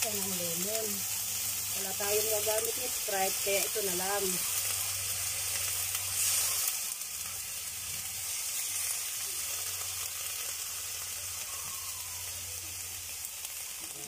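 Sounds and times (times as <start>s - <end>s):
crabs sizzling in a hot wok: 0.0s - 14.0s.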